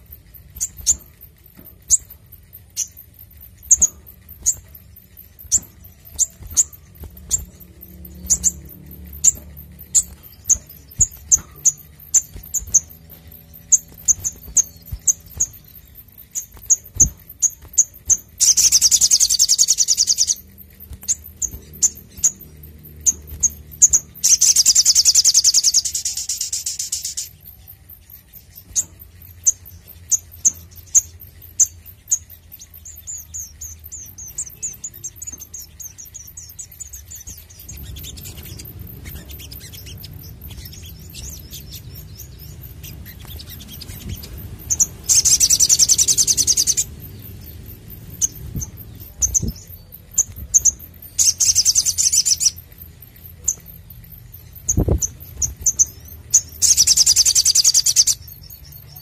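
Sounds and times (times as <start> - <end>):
bird chirping: 0.0 - 59.0
bird trills: 0.0 - 59.0.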